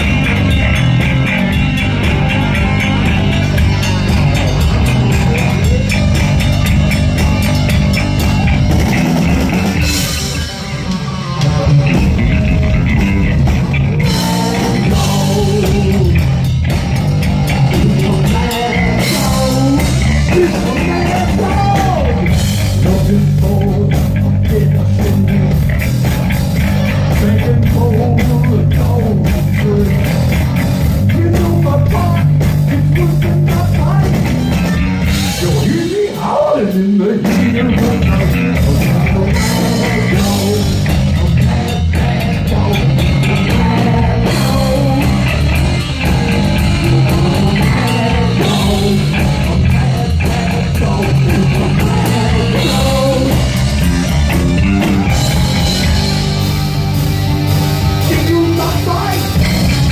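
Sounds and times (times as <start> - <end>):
heavy metal band playing live: 0.0 - 59.9
sliding electric guitar line: 0.0 - 59.9.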